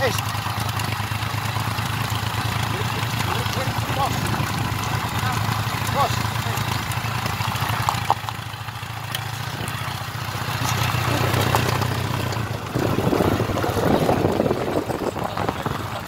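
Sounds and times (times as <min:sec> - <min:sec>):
small motorcycle engine running: 0:00.0 - 0:16.0
rough rumbling noise: 0:01.3 - 0:16.0.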